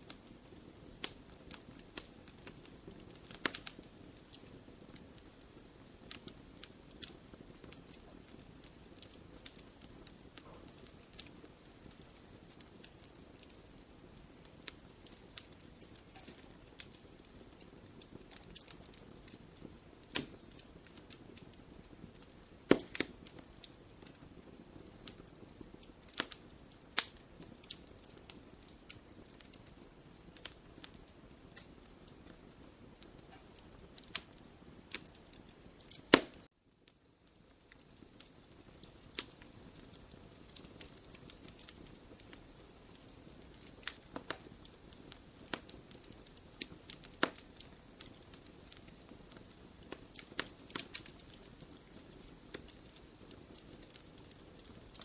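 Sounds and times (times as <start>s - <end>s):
wood fire crackling and popping: 0.0s - 55.0s
fire hissing: 0.1s - 36.5s, 37.3s - 55.0s.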